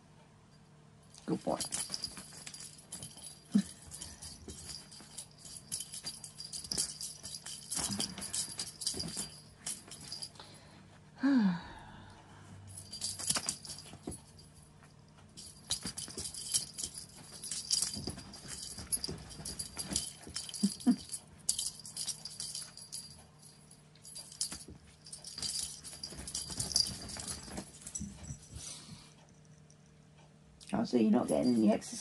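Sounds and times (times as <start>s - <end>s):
small bells jingling: 1.1s - 10.5s, 12.7s - 28.7s, 31.0s - 32.0s.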